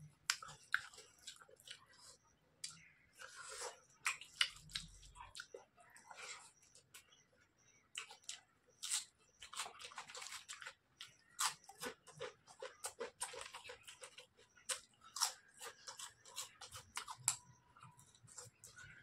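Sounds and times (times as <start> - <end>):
chewing crisp chips: 0.1 - 7.2, 7.9 - 19.0.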